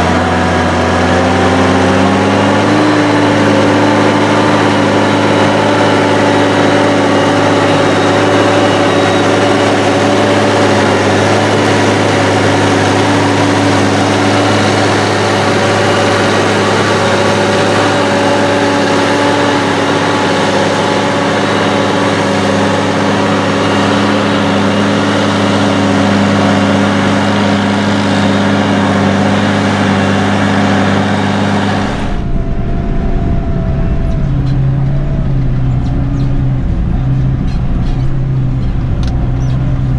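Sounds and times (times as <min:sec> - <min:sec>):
tractor diesel engine: 0:00.0 - 0:39.9.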